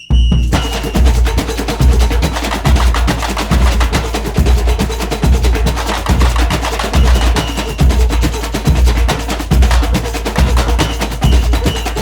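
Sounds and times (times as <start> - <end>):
heavy drum beat: 0.0 - 12.0.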